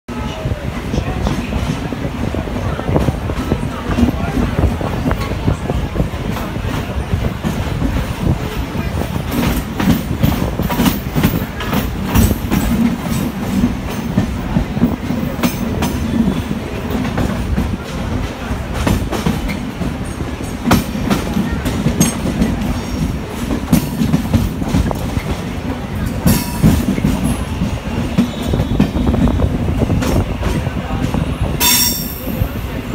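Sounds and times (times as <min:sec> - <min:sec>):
train rumble: 0:00.1 - 0:32.9
wheel clacks on rail joints: 0:00.8 - 0:32.9.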